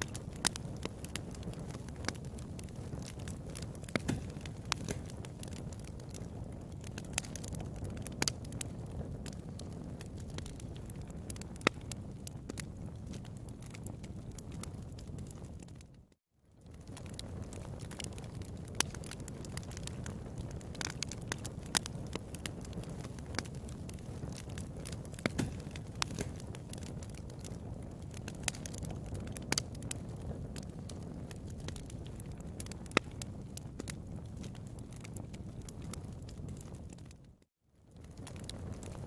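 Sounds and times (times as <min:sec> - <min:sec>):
low rush of burning: 0:00.0 - 0:37.2, 0:37.8 - 0:39.0
wood fire crackling: 0:00.0 - 0:39.0.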